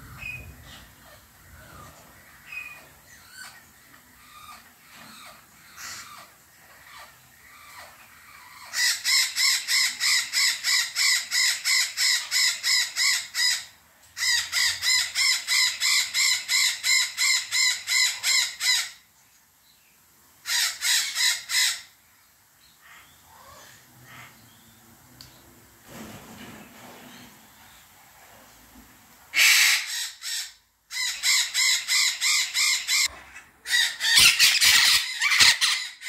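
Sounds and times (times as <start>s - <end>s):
parrots squawking: 0.1s - 19.1s, 20.4s - 22.0s, 22.8s - 24.5s, 29.3s - 36.0s.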